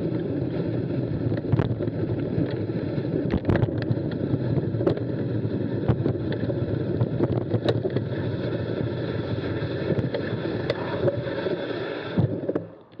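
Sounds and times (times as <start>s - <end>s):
bike tyres rolling on gravel: 0.0s - 13.0s
stones clicking and bike rattling: 0.0s - 13.0s.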